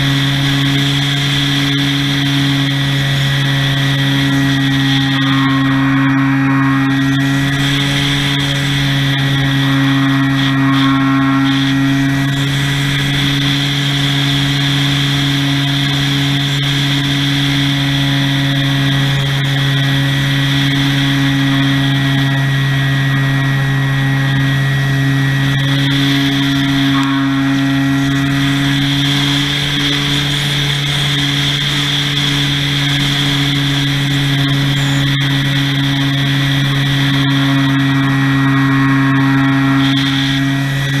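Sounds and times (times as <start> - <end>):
model airplane motor drone: 0.0 - 41.0.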